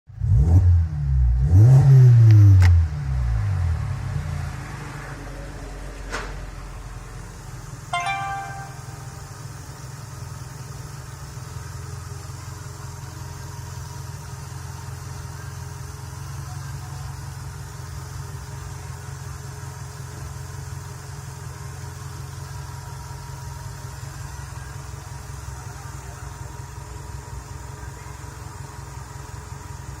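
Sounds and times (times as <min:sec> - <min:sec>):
car engine idling: 0:03.0 - 0:30.0.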